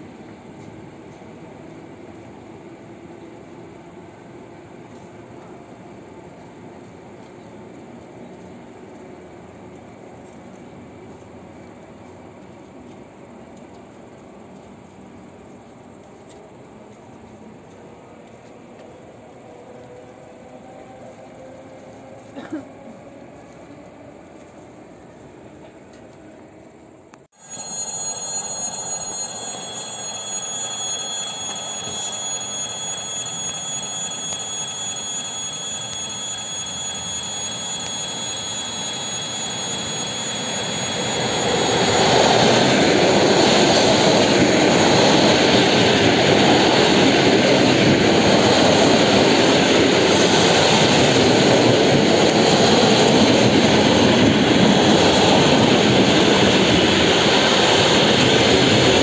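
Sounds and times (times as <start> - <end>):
electric train whine: 0.0 - 59.0
train wheels rushing on rails: 0.0 - 59.0.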